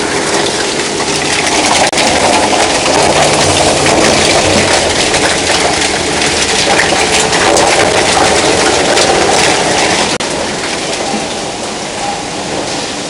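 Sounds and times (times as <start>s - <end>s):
washing line mechanical clatter: 0.0s - 13.0s.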